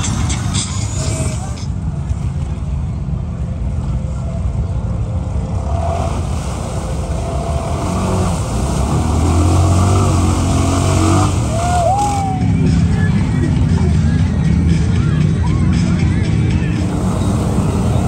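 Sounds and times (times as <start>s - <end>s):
wheels churning and splashing water: 0.0s - 18.0s.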